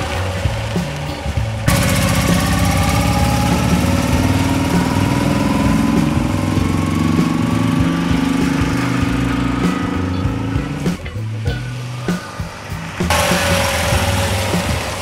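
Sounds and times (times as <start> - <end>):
small car engine driving off: 0.0 - 15.0.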